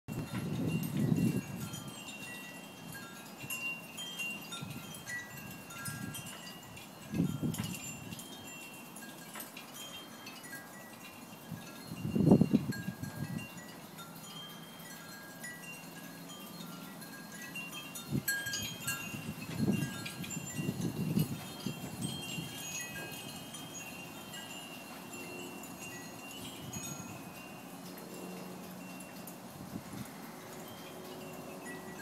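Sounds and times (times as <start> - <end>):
wind buffeting microphone: 0.1 - 8.7, 11.3 - 14.0, 14.8 - 27.8, 29.1 - 32.0
wind chimes ringing: 0.1 - 32.0.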